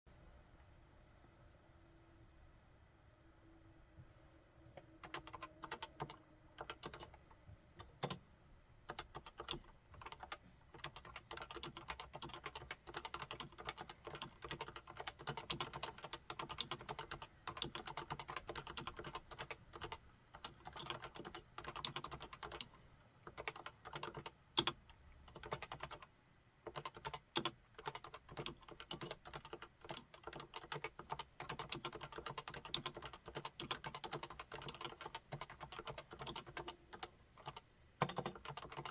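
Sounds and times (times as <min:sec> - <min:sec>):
keyboard typing: 0:05.0 - 0:07.2, 0:07.8 - 0:08.2, 0:08.9 - 0:22.7, 0:23.3 - 0:38.9.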